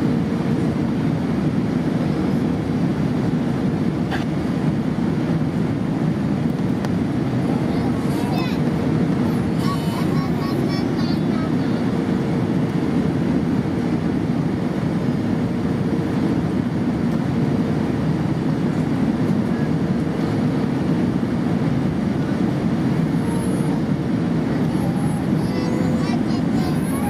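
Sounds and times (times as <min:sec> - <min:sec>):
airliner engines and rushing air: 0:00.0 - 0:27.0.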